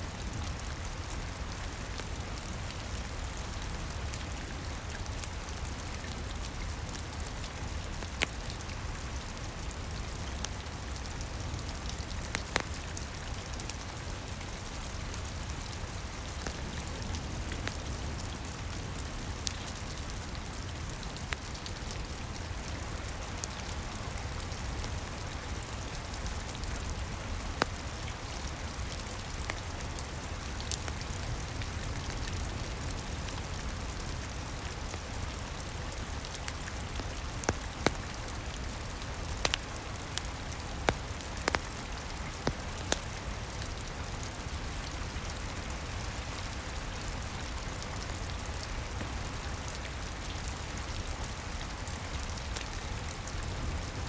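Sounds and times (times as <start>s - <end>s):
steady rain: 0.0s - 54.0s
wood fire crackling: 0.2s - 53.8s.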